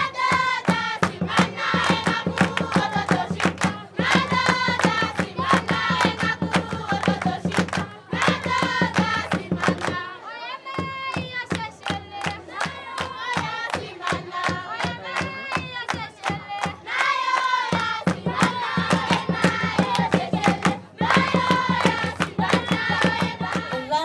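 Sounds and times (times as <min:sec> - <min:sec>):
women and girls singing: 0:00.0 - 0:24.0
quick hand clapping: 0:00.2 - 0:10.0, 0:10.8 - 0:23.9.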